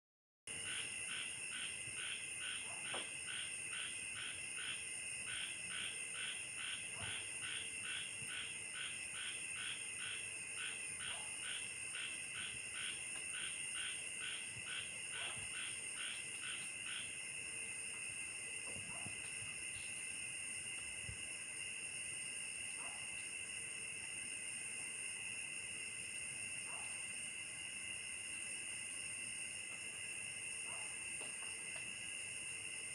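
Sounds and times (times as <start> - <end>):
insects chirping: 0.5 - 32.9.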